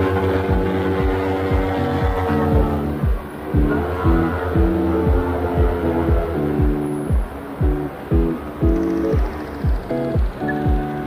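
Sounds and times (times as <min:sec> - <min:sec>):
held chords: 0:00.0 - 0:11.0
kick drum beat: 0:00.0 - 0:11.0.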